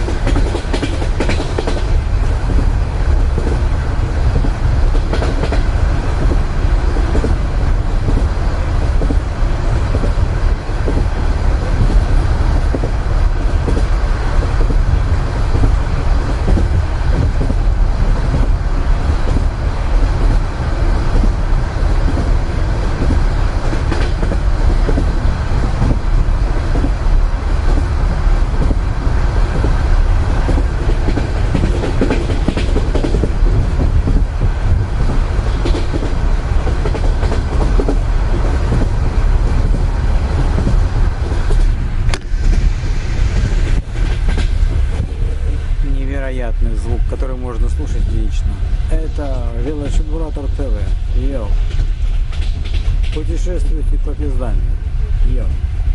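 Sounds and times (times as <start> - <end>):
train carriage rumble: 0.0 - 55.9
wheels clickety-clack over rail joints: 0.0 - 55.9.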